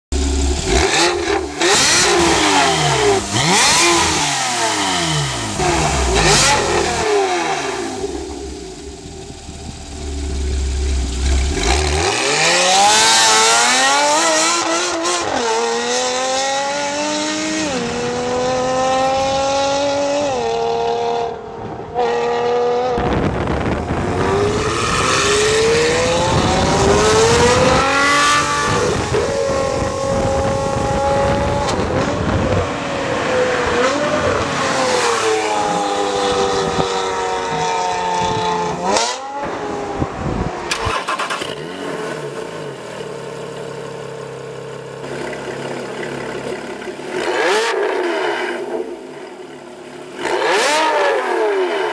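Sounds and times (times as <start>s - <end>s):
car engine revving and accelerating: 0.2s - 49.2s, 50.1s - 51.9s.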